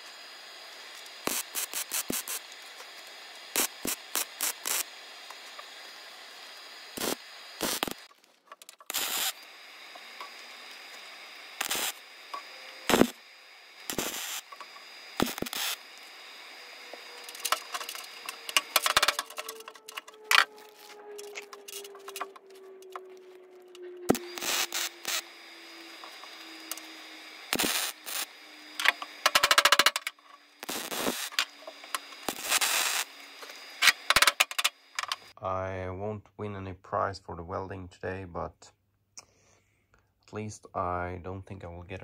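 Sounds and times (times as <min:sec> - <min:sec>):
welding arc crackling: 0:00.0 - 0:35.4.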